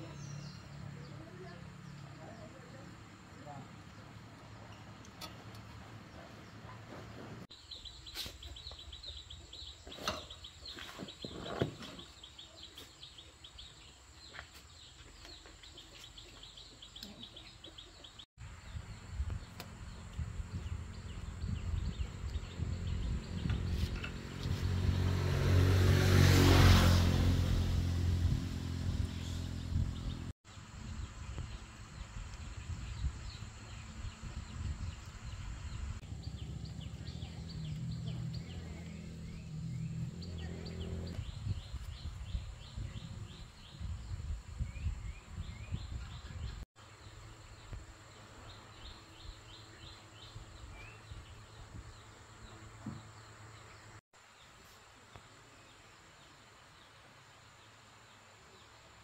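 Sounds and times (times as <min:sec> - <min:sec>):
birds chirping: 0:00.0 - 0:27.0, 0:28.5 - 0:54.0.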